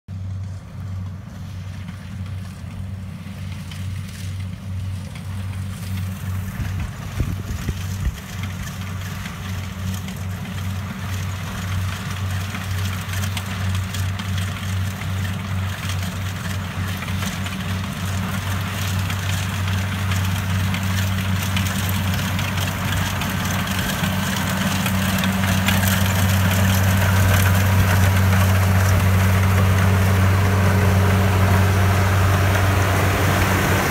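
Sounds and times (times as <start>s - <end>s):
diesel engine humming: 0.1s - 33.9s
harvester machinery rushing: 0.2s - 33.9s.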